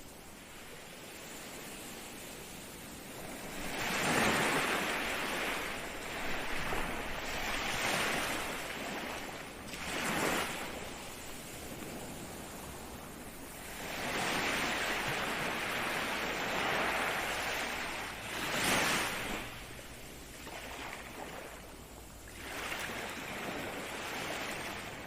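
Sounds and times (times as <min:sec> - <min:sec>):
waves breaking and washing in: 0:00.0 - 0:25.0.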